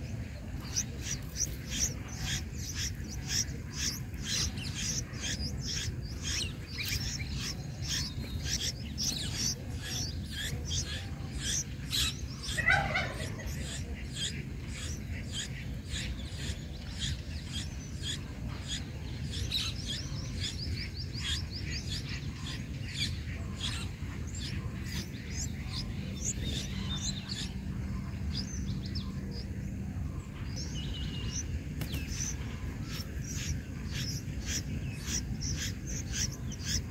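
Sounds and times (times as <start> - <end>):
low background noise: 0.0 - 36.9
nestling birds cheeping: 0.0 - 36.9.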